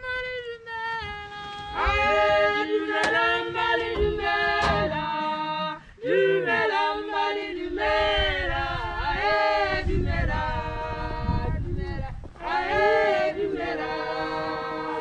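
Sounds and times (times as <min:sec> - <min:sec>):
women singing in harmony: 0:01.0 - 0:15.0.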